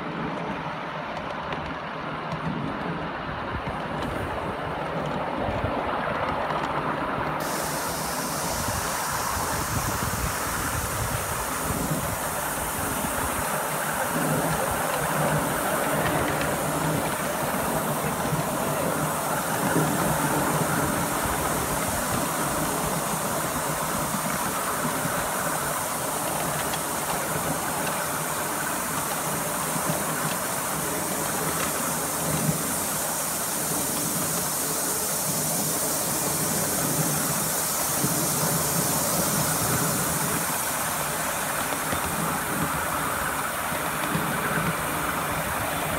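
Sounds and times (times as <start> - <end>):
miniature train rumbling on track: 0.0 - 45.9
steam hissing: 0.0 - 45.9.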